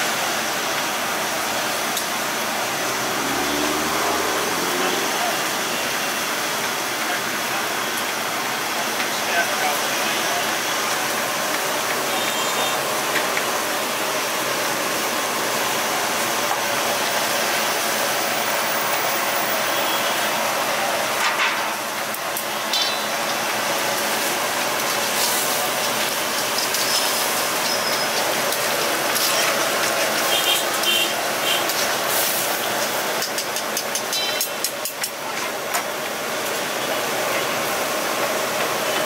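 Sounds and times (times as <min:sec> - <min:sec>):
gravy bubbling and sizzling: 0:00.0 - 0:39.0.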